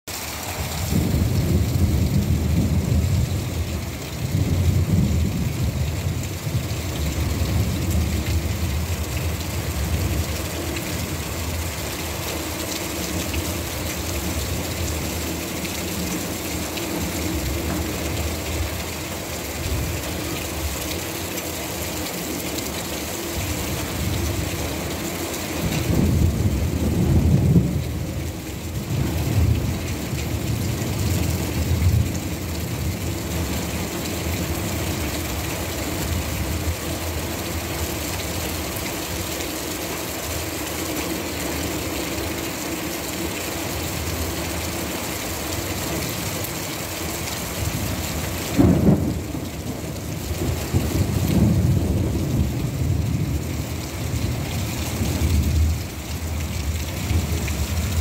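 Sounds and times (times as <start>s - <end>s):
heavy rain falling: 0.1s - 58.0s
water pouring off roof edge: 0.1s - 58.0s.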